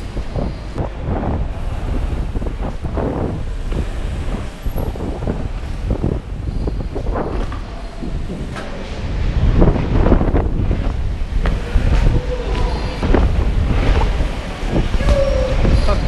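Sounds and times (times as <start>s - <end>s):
bike tyres and frame rumbling: 0.0s - 16.0s
wind noise on microphone: 0.0s - 16.0s.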